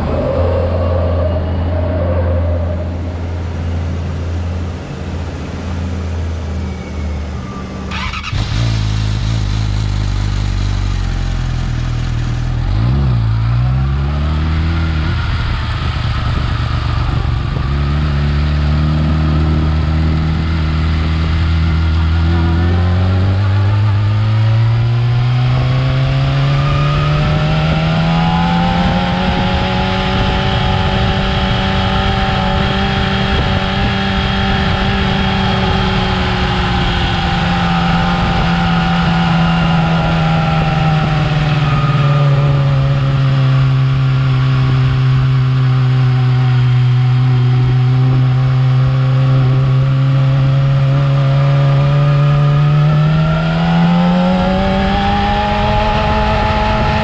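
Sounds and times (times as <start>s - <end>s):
motorcycle engine revving: 7.8s - 57.0s.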